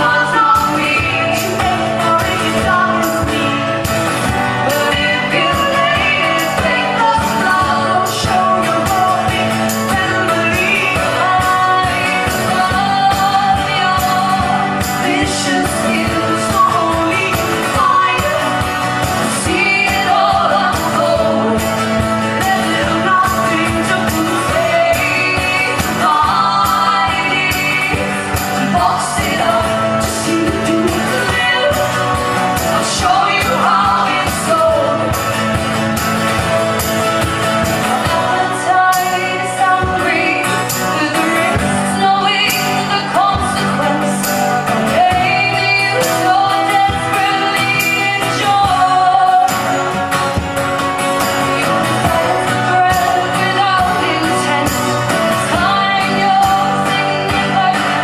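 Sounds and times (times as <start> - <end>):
person singing: 0.0 - 35.6, 37.7 - 50.1, 51.1 - 58.0
guitar: 0.0 - 58.0.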